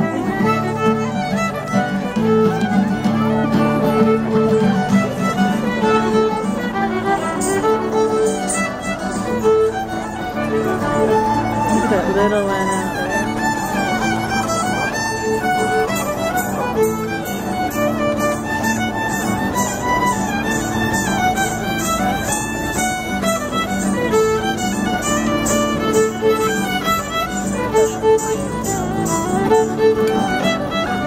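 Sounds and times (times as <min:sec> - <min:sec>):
fiddle folk dance tune: 0:00.0 - 0:31.0.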